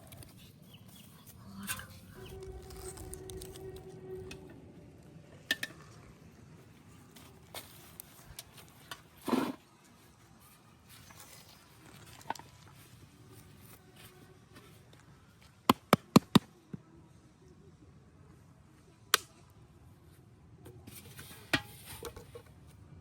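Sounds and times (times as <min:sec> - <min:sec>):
faint outdoor background: 0:00.0 - 0:23.0.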